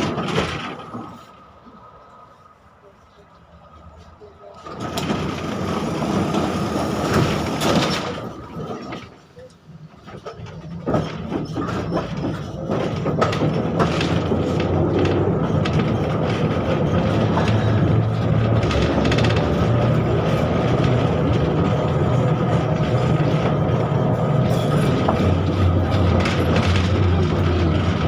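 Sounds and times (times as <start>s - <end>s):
tram wheels on rails: 0.0s - 28.0s.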